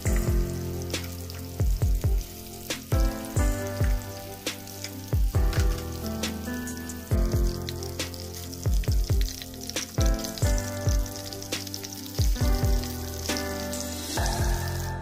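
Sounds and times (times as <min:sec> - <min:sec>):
background music with drum hits: 0:00.0 - 0:15.0
fish cakes sizzling in oil: 0:00.0 - 0:15.0.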